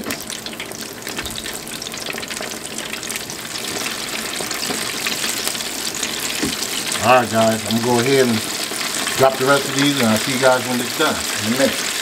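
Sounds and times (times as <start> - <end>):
chicken frying in deep fryer: 0.0 - 12.0.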